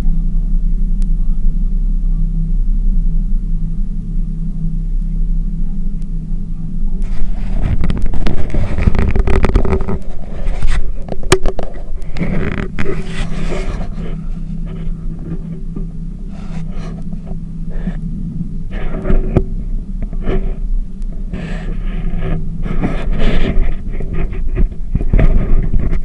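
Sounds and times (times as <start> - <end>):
boat engine humming: 0.0 - 26.0
rumbling microphone noise: 0.0 - 26.0.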